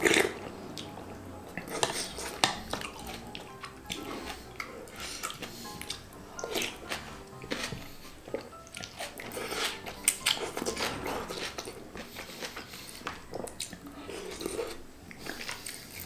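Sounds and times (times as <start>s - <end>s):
slurping noodles: 0.0s - 0.5s, 1.6s - 3.2s, 3.9s - 13.1s, 13.9s - 16.0s
chewing with wet smacks: 0.0s - 16.0s.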